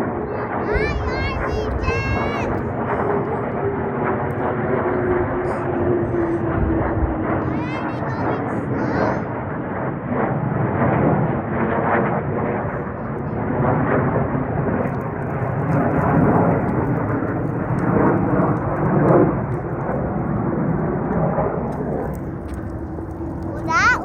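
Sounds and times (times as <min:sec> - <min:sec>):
fighter jets roaring overhead: 0:00.0 - 0:24.0.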